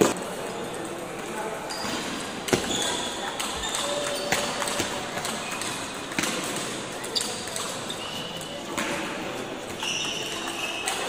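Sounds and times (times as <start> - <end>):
table tennis ball hitting paddles: 1.8 - 11.0.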